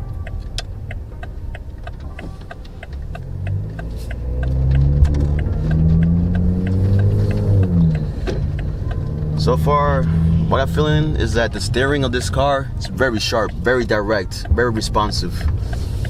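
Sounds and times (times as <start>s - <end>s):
car engine accelerating: 0.0s - 16.0s
turn signal ticking: 0.0s - 16.0s.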